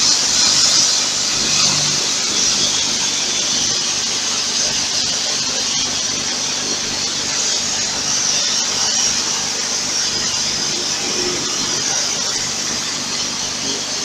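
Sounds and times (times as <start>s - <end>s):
water jet spraying onto metal: 0.0s - 14.0s.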